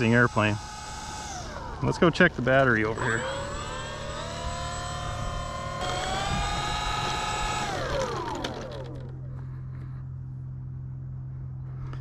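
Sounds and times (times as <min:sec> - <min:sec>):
electric motors and propellers whining: 0:00.0 - 0:12.0
low steady hum: 0:00.0 - 0:12.0.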